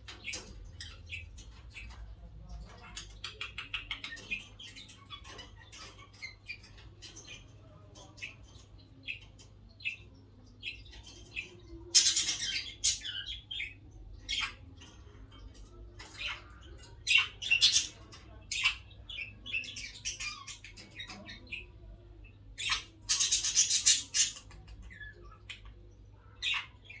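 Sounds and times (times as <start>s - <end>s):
budgerigars chirping and squawking: 0.0s - 27.0s.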